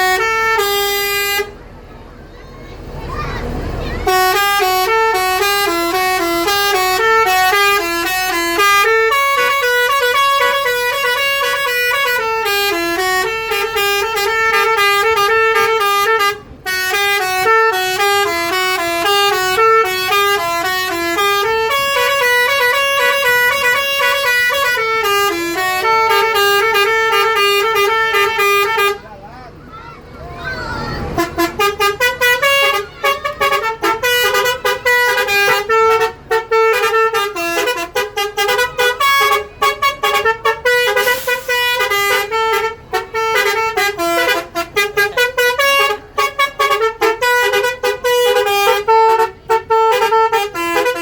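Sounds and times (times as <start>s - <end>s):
musical bus air horn melody: 0.0s - 1.7s, 3.8s - 29.2s, 31.0s - 51.0s.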